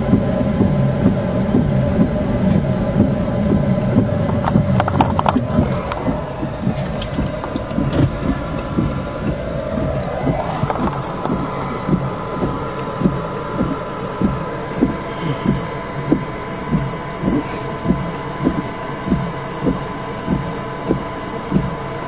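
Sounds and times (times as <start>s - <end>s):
soft low thumps: 0.0s - 21.9s
faint high whine: 0.0s - 22.0s
low rumbling inside car: 0.0s - 22.0s.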